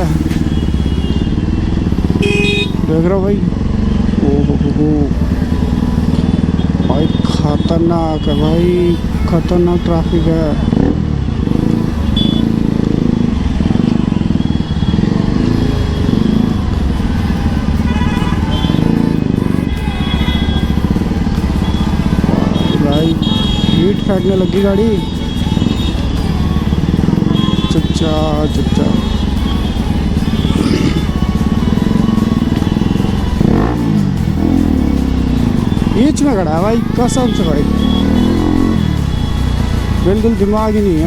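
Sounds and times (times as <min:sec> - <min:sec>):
motorcycle engine running at low revs: 0:00.0 - 0:41.0.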